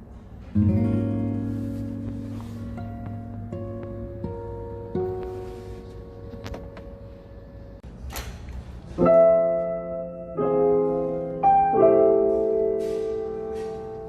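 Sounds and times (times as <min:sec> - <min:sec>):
piano chords: 0:00.0 - 0:08.0, 0:08.8 - 0:14.0.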